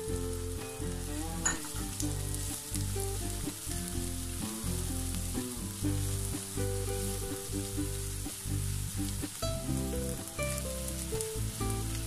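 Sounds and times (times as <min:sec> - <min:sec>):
background music low notes: 0:00.0 - 0:12.0
onion sizzling in oil: 0:00.0 - 0:12.0.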